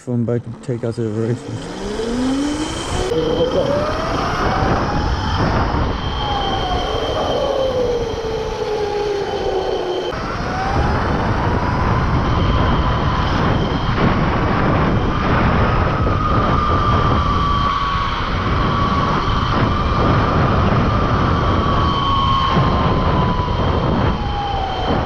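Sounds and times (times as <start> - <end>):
wind rush on microphone: 0.4 - 25.0
electric motor whining: 0.8 - 25.0.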